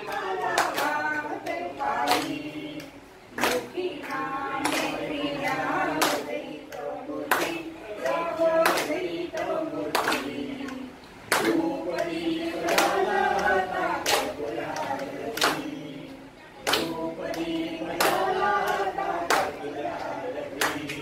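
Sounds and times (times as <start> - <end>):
group singing devotional song: 0.0 - 21.0
hand clapping in time: 0.0 - 21.0.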